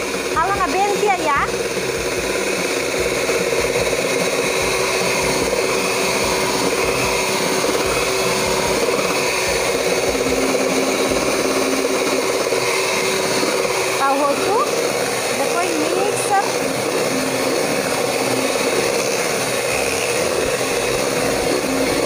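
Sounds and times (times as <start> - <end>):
beaters whipping batter in metal bowl: 0.0 - 22.0
electric hand mixer running: 0.0 - 22.0.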